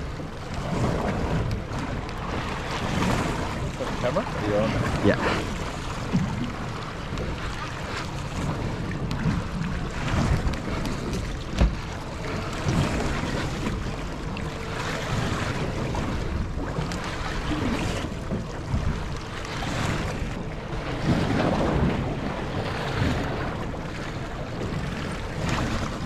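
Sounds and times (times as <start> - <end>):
waves splashing against hull: 0.0 - 26.0
wind buffeting microphone: 0.0 - 26.0.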